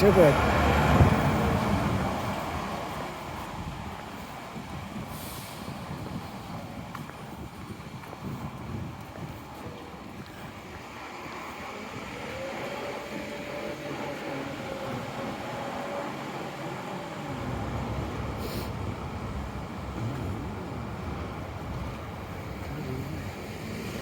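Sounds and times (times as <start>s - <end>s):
low rumble of passing vehicle: 0.0s - 24.0s
vehicle engine whine: 0.0s - 24.0s.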